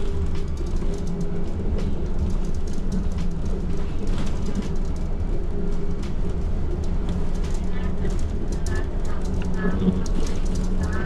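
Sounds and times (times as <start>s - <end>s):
bodywork rattles and clicks: 0.0s - 11.0s
bus engine drone: 0.0s - 11.0s.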